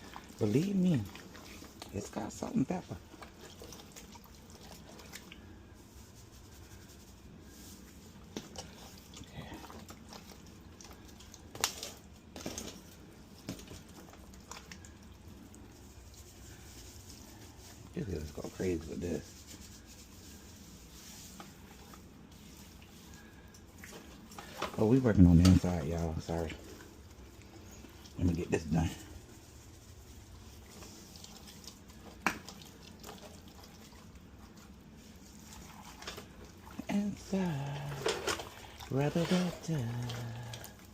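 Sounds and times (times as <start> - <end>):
wet squelching of hands on meat: 0.0 - 40.9.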